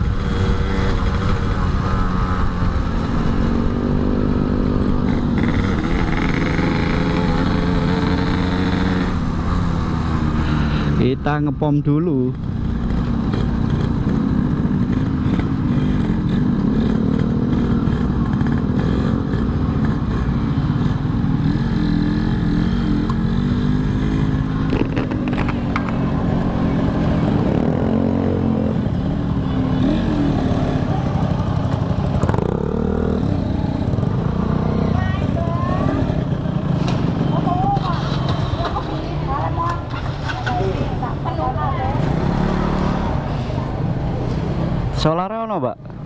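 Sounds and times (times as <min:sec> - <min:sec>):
two-stroke motorcycle engine revving: 0:00.0 - 0:11.2, 0:12.4 - 0:43.2.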